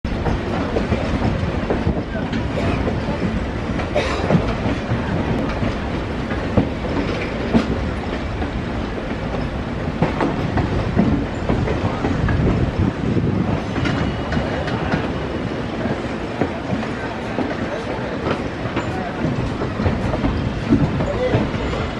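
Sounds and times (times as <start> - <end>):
train rumble: 0.1 - 21.9.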